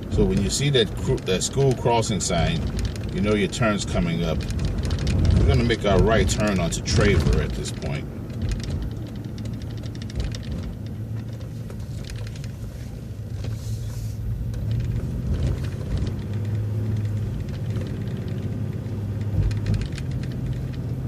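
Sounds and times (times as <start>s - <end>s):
bus engine rumble: 0.0s - 21.0s
light rattles: 0.0s - 21.0s.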